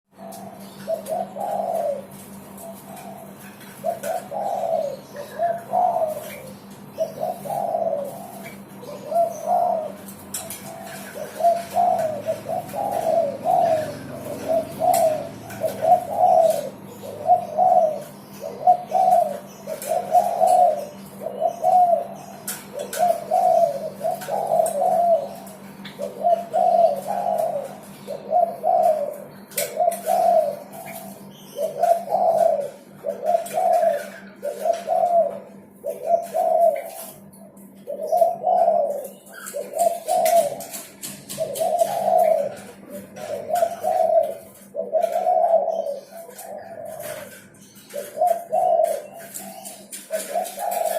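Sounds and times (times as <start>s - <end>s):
dove cooing: 0.1s - 50.9s.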